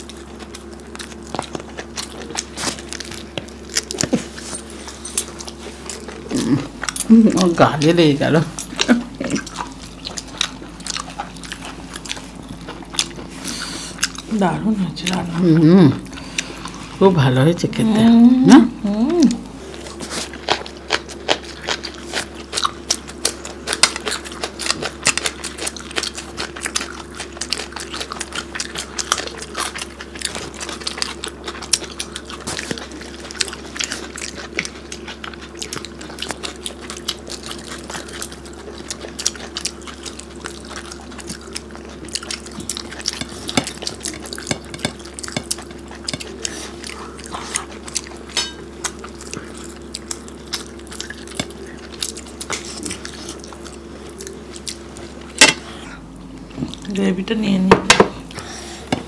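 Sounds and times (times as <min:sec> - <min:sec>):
people chewing and smacking: 0:00.0 - 0:57.2, 0:57.8 - 0:59.0
steady low hum: 0:00.0 - 0:59.0.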